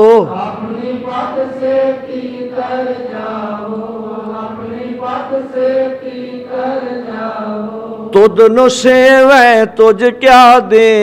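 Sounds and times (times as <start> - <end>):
devotional music with chanting: 0.0 - 9.6.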